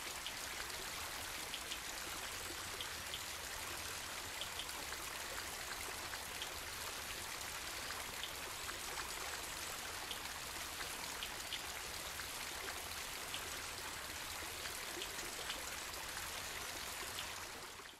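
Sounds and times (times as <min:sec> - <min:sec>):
water trickling into a pond: 0:00.0 - 0:17.9.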